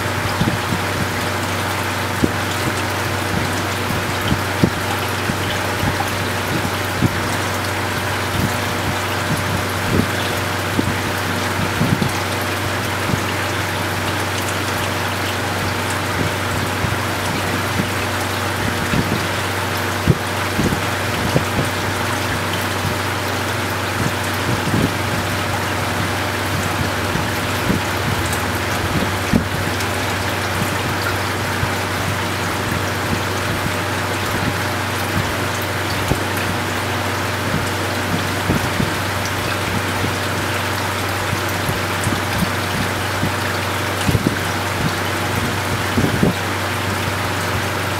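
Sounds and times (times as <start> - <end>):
low pump hum: 0.0 - 47.9
water splashing and trickling: 0.0 - 47.9.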